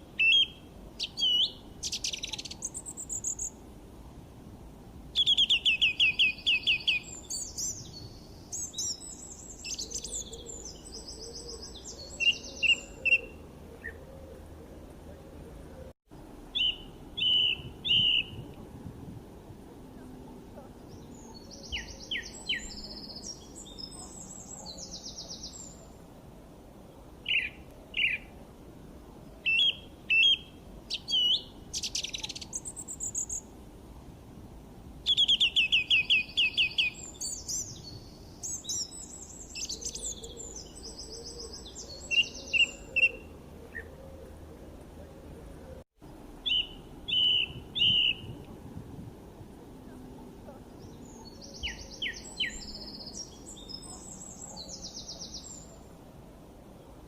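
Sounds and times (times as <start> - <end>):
songbirds chirping and trilling: 0.0 - 3.8, 4.9 - 33.6, 34.8 - 57.0
faint steady background noise: 0.0 - 57.0.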